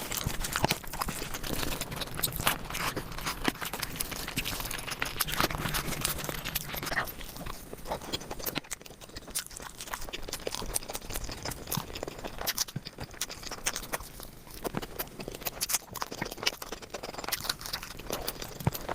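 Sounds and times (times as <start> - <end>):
person chewing food: 0.0 - 18.9.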